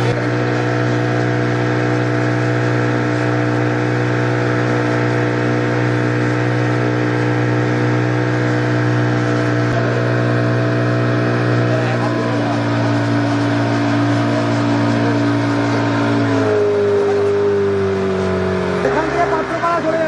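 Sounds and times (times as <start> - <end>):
engine droning steadily: 0.0 - 20.0.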